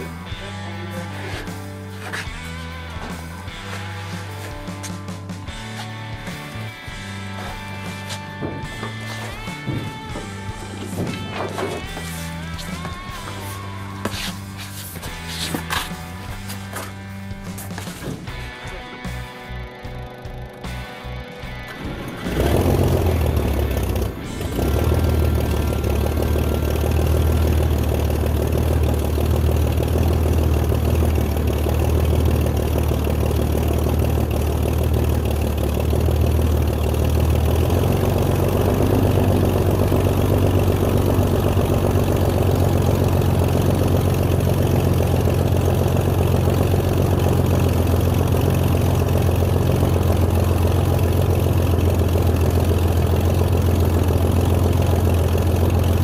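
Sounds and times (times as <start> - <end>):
aircraft engine running: 0.0 - 56.0.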